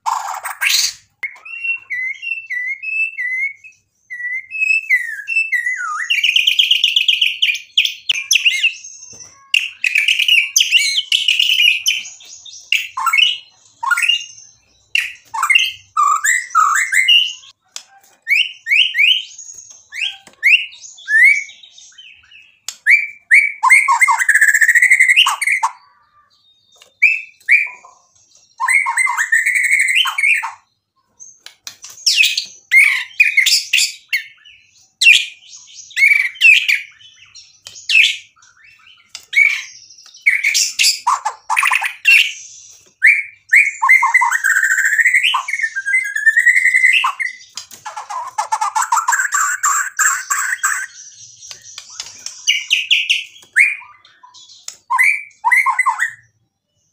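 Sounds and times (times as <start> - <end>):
songbird singing: 0.0 - 56.9.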